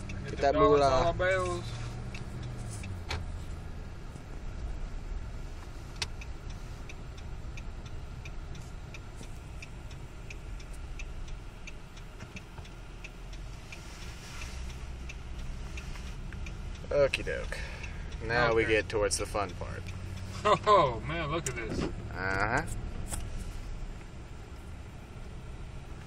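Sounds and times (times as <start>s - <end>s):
low engine and road rumble: 0.0s - 26.0s
regular ticking: 0.0s - 26.0s.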